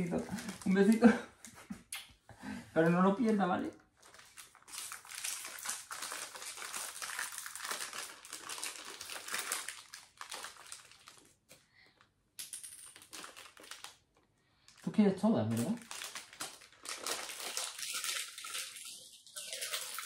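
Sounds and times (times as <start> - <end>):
plastic packet crinkling: 0.0 - 1.2, 2.8 - 11.6, 12.9 - 20.0.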